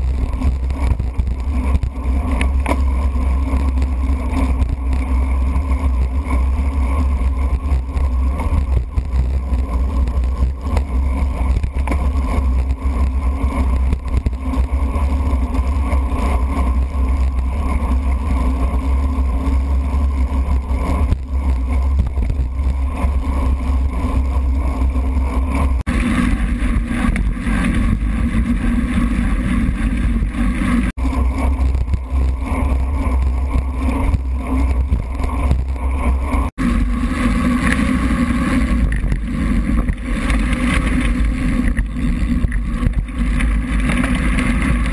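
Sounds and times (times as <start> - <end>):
muffled wind buffeting: 0.0 - 44.9
road vibration rumble: 0.0 - 44.9.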